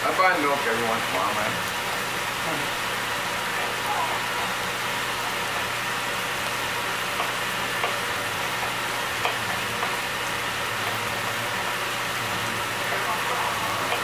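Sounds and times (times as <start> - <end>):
meat sizzling in hot fat: 0.0 - 14.0.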